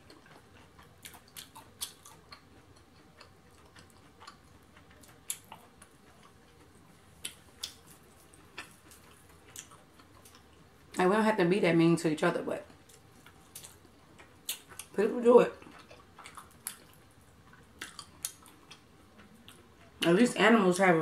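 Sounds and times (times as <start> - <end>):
quiet chewing: 0.0 - 11.0, 12.6 - 20.2
crispy breading crackling: 0.0 - 11.2, 12.7 - 21.0.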